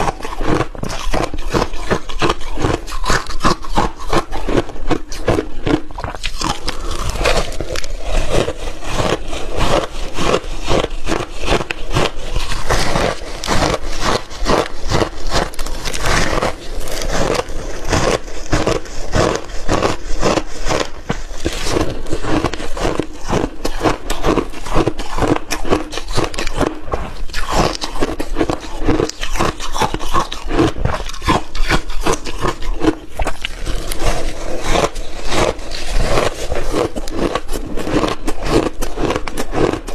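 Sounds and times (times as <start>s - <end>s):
shaved ice being chewed: 0.0s - 39.9s.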